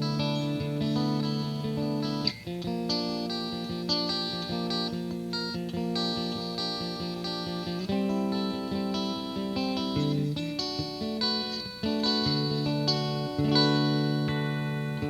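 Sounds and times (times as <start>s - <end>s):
electric guitar notes and chords: 0.0s - 15.0s.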